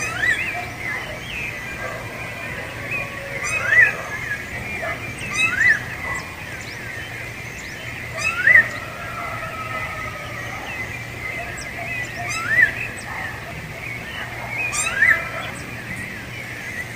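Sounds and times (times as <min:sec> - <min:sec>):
thrush singing: 0:00.0 - 0:16.9.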